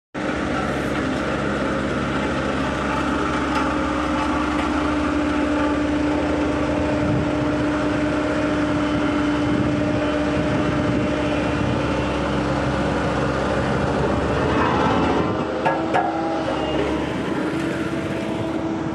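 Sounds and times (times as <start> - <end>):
road roller engine droning: 0.2 - 18.9.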